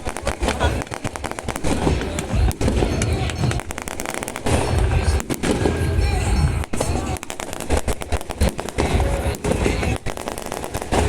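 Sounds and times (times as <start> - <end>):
firecrackers popping: 0.0 - 11.0.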